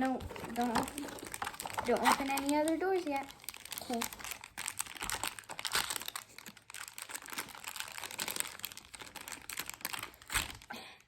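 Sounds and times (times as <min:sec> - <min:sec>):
plastic and cardboard crinkling: 0:00.0 - 0:11.0
packaging clicks: 0:00.1 - 0:10.7.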